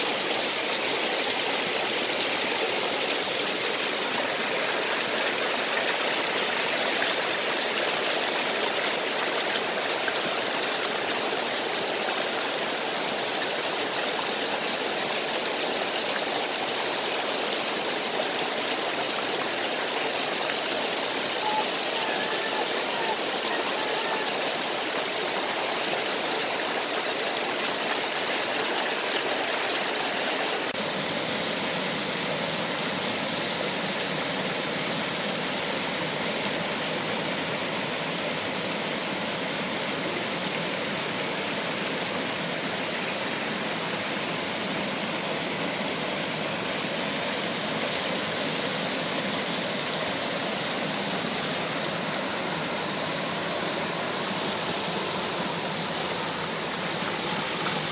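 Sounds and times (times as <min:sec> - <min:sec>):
waterfall and stream rushing: 0:00.0 - 0:57.9.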